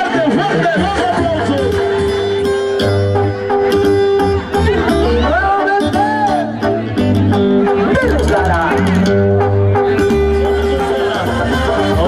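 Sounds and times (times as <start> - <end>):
low bass line: 0.0 - 12.0
held melody notes: 0.5 - 12.0.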